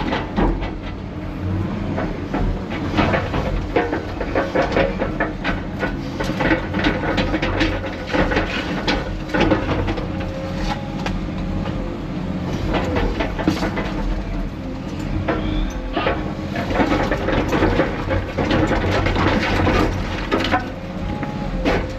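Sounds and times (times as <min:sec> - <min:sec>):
diesel machinery droning: 0:00.0 - 0:21.9
rubble clanking and knocking: 0:00.0 - 0:21.9.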